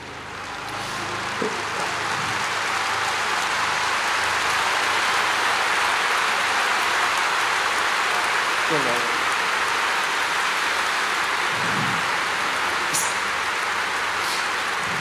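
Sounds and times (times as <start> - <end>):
stadium crowd applauding: 0.0 - 15.0.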